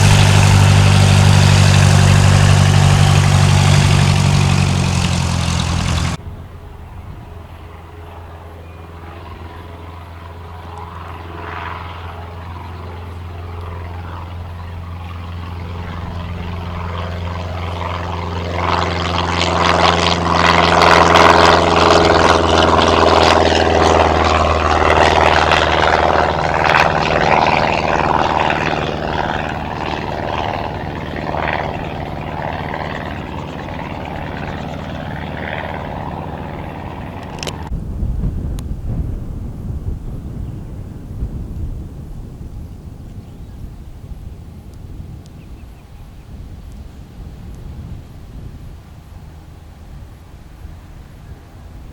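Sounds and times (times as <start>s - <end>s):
light aircraft engine and propeller: 0.0s - 51.9s.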